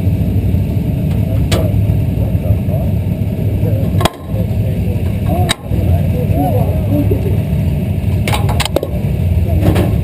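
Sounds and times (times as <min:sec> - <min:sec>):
race car engine rumbling: 0:00.0 - 0:10.0.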